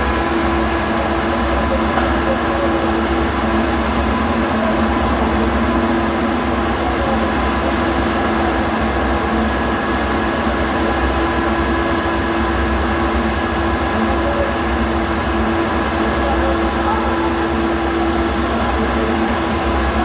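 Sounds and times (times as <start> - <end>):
loud machine drone: 0.0 - 20.0.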